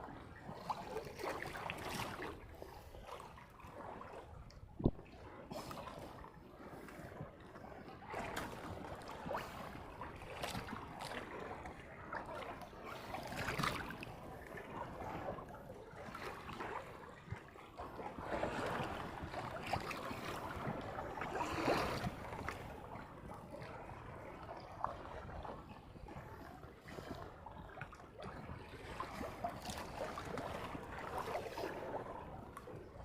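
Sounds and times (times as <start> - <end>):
water slapping against boat hull: 0.5 - 2.5, 3.1 - 5.2, 8.1 - 26.5, 27.8 - 33.0.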